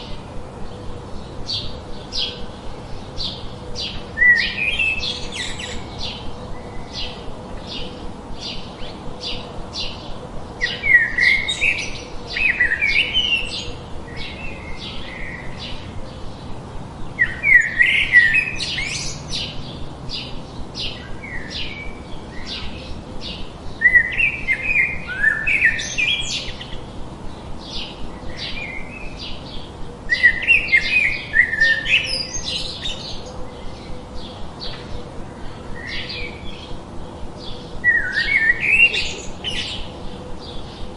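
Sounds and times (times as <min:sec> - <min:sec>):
bird warbling song: 0:00.0 - 0:40.9.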